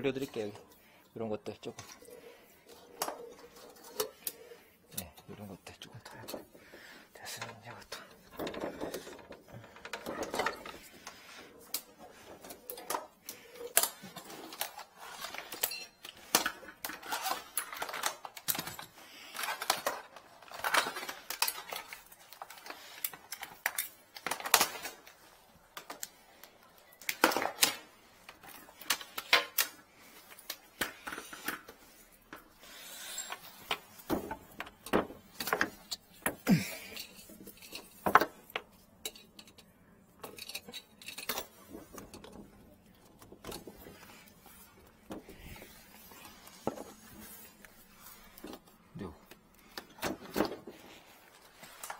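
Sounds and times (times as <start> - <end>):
tools clicking and clattering: 1.4 - 6.6, 7.2 - 51.9.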